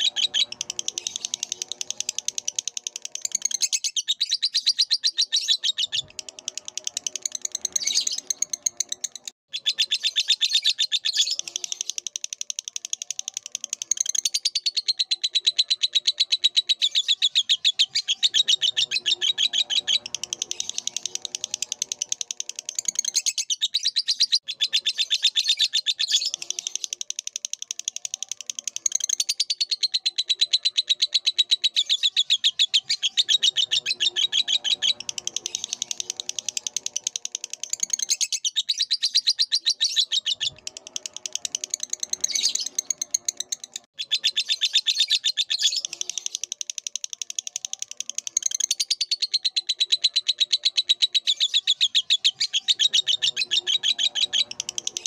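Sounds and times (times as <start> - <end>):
lovebird chattering: 0.0 - 55.0.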